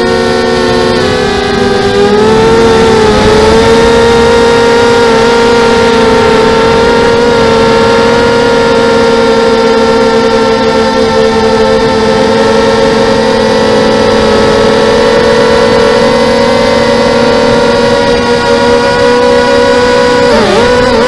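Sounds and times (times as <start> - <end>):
drone motors buzzing whine: 0.0 - 21.0.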